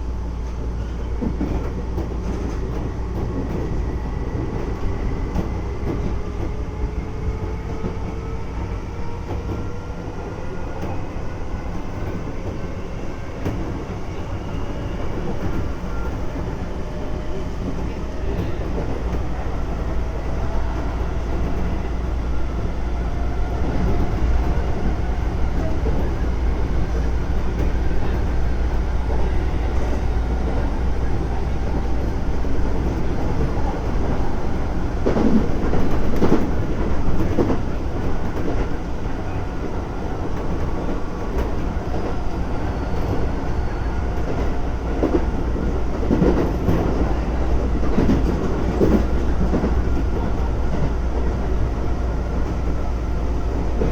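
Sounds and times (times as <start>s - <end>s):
electric train rumbling: 0.0s - 53.9s.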